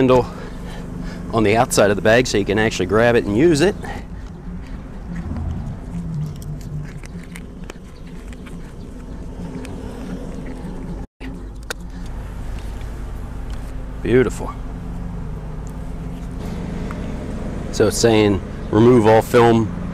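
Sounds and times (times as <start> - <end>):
distant lawn mower engines: 0.0 - 19.9.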